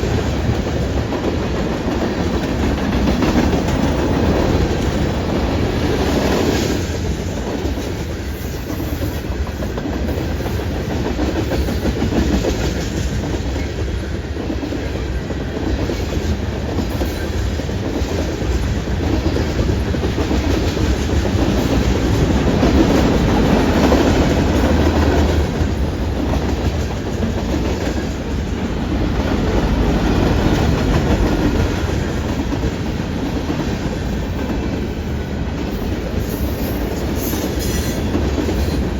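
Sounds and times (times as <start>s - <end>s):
freight train cars rolling past: 0.0s - 38.9s.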